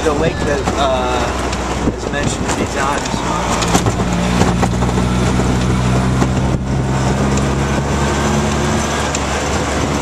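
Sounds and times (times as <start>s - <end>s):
auto-rickshaw engine running: 0.0s - 10.0s.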